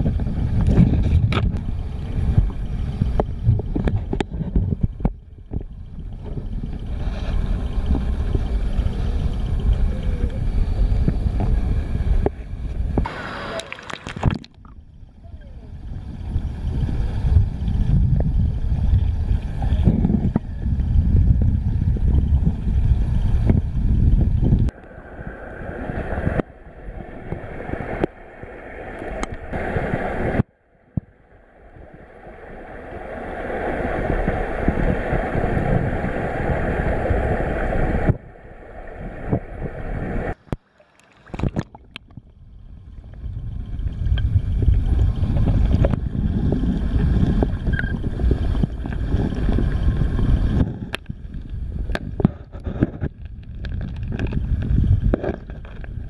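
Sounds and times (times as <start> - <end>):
muffled underwater stream rushing: 0.0 - 56.0.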